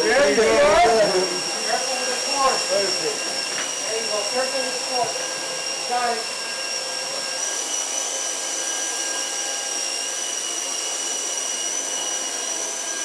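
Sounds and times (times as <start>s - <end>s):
electric sprayer motor whining: 0.0s - 13.0s.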